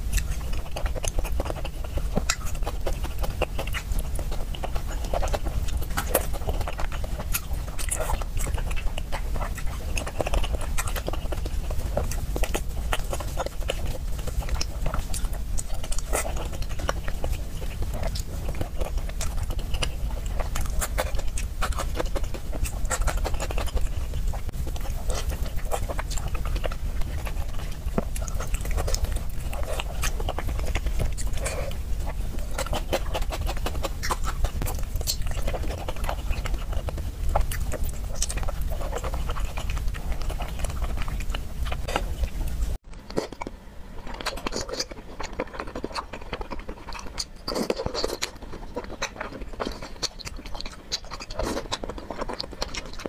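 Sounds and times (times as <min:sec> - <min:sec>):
person chewing food: 0:00.0 - 0:53.0
steady low hum: 0:00.0 - 0:53.0.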